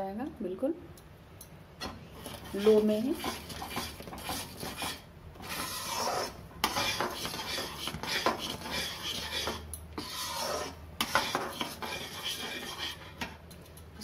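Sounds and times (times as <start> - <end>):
metal spatula scraping syrup in pan: 2.1 - 13.4.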